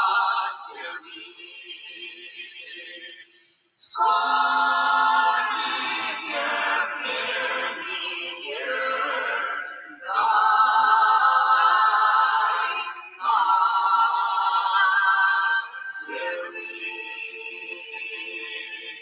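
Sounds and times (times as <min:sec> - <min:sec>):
choir singing held chords: 0:00.0 - 0:03.1, 0:03.8 - 0:19.0.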